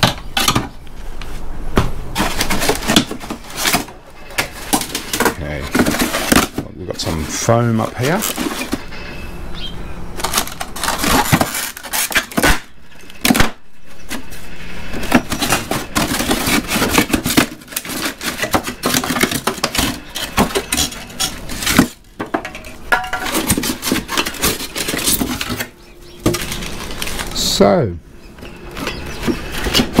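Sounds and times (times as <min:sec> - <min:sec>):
foam panel scraping and creaking: 0:00.0 - 0:09.4, 0:10.2 - 0:27.8, 0:28.4 - 0:30.0.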